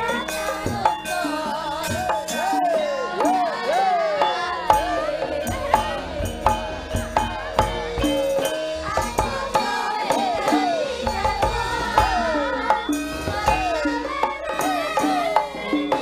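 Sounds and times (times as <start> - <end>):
drum strokes: 0.0 - 16.0
gamelan music: 0.0 - 16.0
women singing: 0.0 - 16.0.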